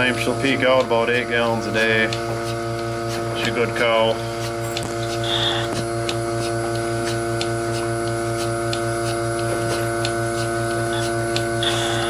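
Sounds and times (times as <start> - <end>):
vacuum pump hum: 0.0 - 12.0.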